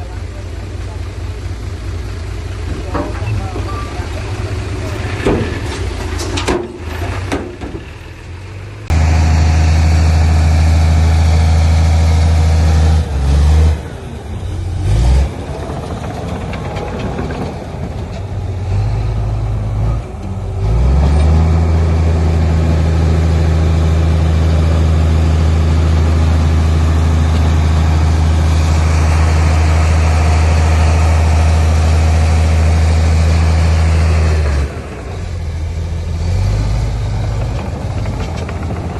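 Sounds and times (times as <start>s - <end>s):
heavy diesel machine droning: 0.0s - 38.9s.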